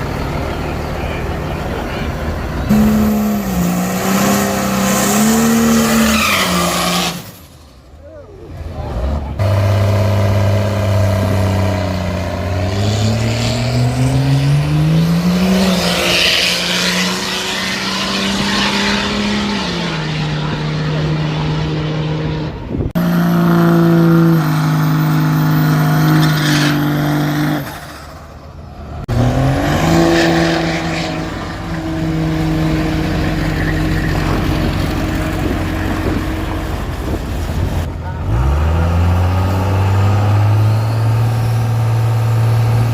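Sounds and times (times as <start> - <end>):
diesel truck engines running: 0.0 - 42.9.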